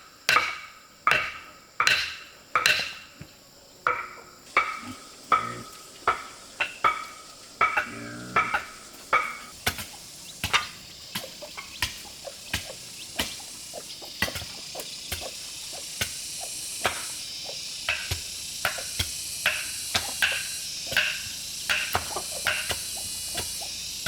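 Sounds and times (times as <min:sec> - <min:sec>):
sizzling hiss: 0:04.2 - 0:24.0.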